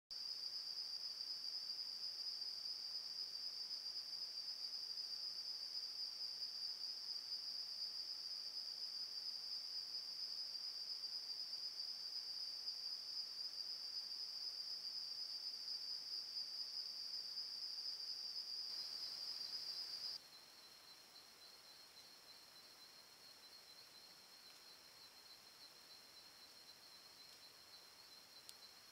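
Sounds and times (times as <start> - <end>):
lower-pitched insect trill: 0.2 - 28.9
night insects chorus: 0.2 - 28.9.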